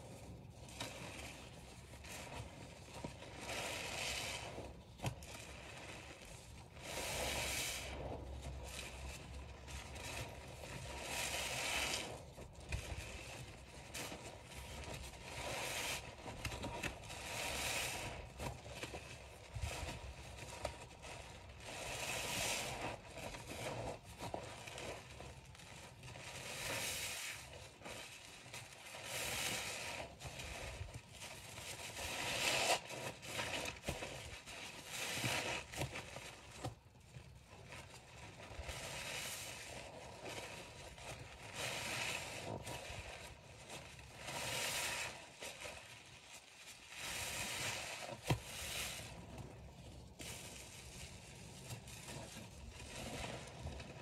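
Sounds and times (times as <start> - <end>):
wet sponge squeezing: 0.0 - 54.0.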